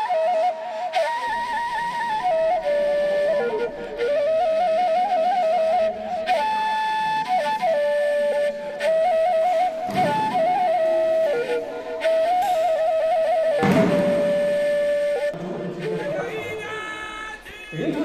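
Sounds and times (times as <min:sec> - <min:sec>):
solo flute melody: 0:00.0 - 0:18.0.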